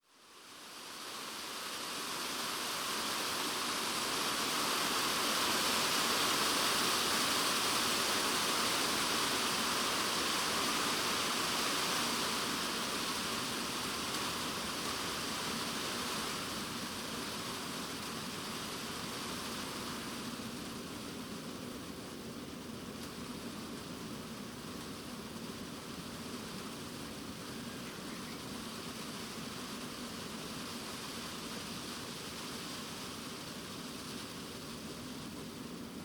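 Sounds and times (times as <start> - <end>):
heavy rain on plastic roof: 0.0 - 36.0.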